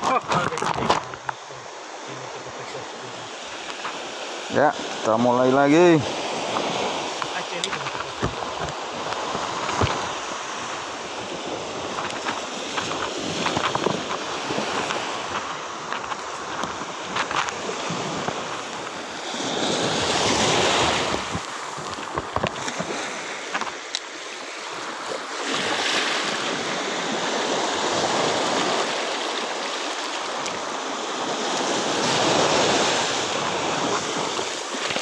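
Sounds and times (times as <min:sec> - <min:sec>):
sea waves washing ashore: 0:00.0 - 0:35.0.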